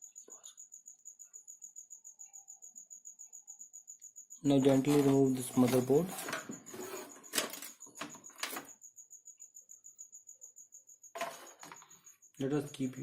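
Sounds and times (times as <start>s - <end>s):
faint high-pitched chirp: 0.0s - 13.0s.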